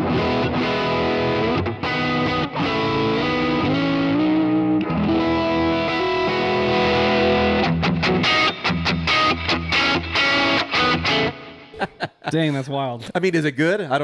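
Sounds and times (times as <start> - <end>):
driven electric guitar: 0.0 - 11.8.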